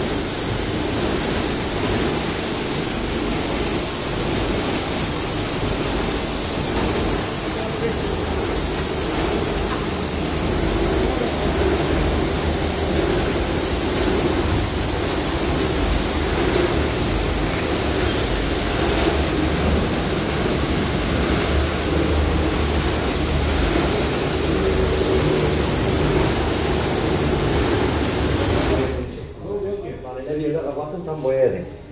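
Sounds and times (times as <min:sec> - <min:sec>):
rotating brushes scrubbing: 0:00.0 - 0:29.0
carpet washing machine hum: 0:00.0 - 0:29.3.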